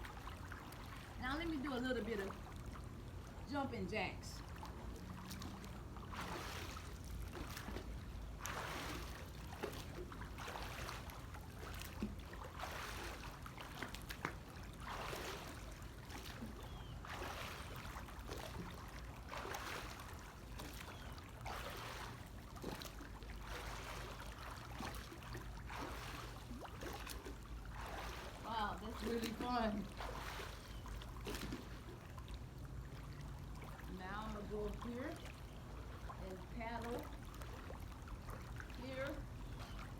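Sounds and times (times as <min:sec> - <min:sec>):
pool water sloshing and splashing: 0:00.0 - 0:39.9.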